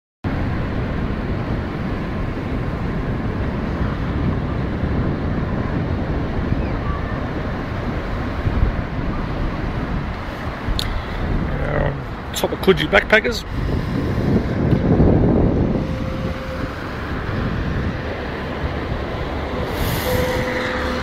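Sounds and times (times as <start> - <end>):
wind on microphone: 0.3 - 21.0.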